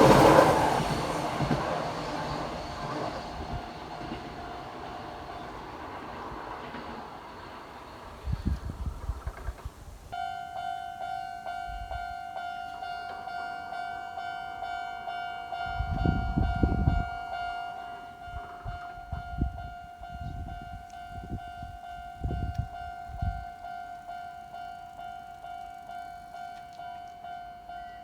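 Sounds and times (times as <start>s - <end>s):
level crossing warning bell: 0.0s - 6.9s, 10.1s - 28.0s
electric train rumbling past: 0.0s - 28.0s.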